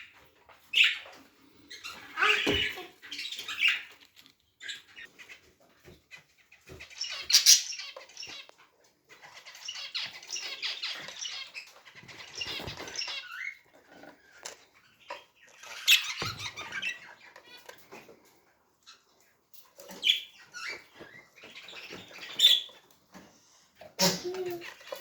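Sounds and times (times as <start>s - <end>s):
birds chirping and squeaking: 0.0s - 25.0s.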